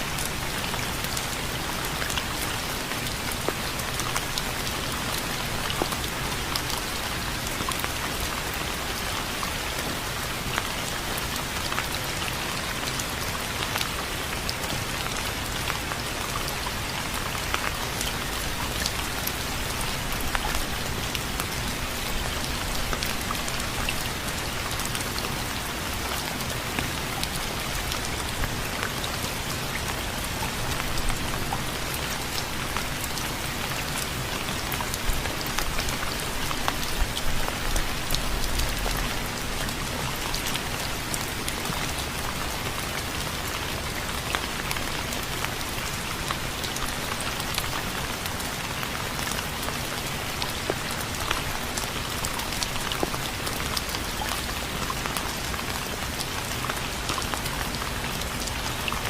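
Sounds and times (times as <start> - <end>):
raindrops hitting surface: 0.0 - 59.0.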